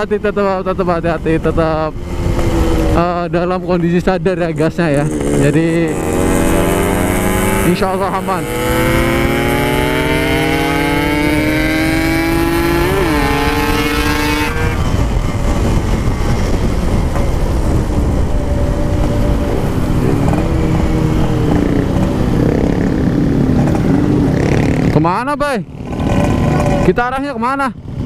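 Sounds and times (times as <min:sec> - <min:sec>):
wind rumble: 0:00.0 - 0:27.2
motorcycle engine accelerating: 0:00.6 - 0:28.0.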